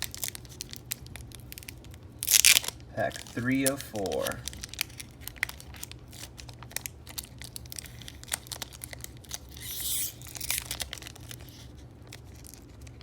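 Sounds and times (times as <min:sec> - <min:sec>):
plastic wrapper crinkling: 0:00.0 - 0:13.0
wrapper ripping open: 0:00.0 - 0:13.0.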